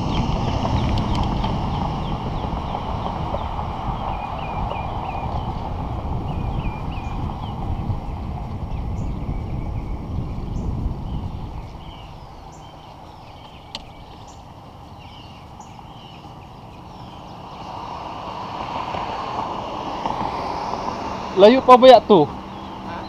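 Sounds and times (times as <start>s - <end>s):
birds chirping: 0.0s - 23.0s
traffic rushing: 0.0s - 23.0s
wind rumbling on microphone: 0.0s - 23.0s.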